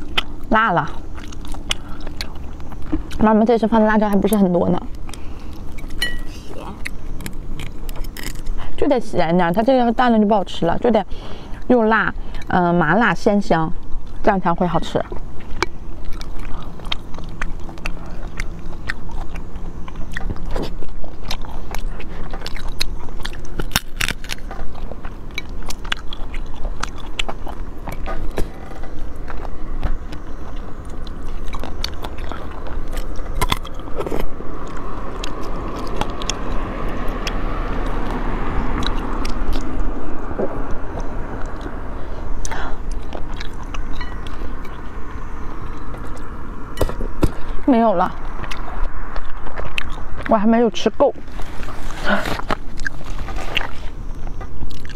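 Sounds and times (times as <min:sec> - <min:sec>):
person chewing shellfish: 0:00.0 - 0:08.8, 0:10.5 - 0:12.6, 0:13.8 - 0:50.4, 0:51.2 - 0:54.9.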